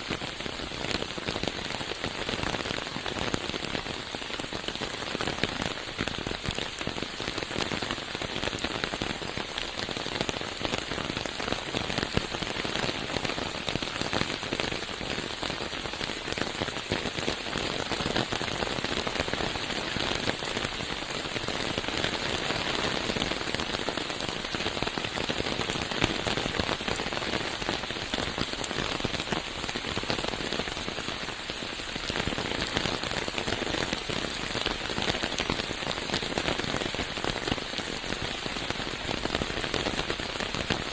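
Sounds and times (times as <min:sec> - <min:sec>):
rain on foliage: 0:00.0 - 0:40.9.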